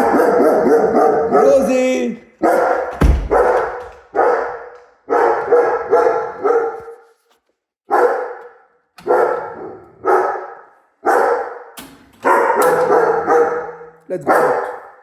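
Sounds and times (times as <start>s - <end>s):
dog barking: 0.0s - 7.3s, 7.9s - 15.0s.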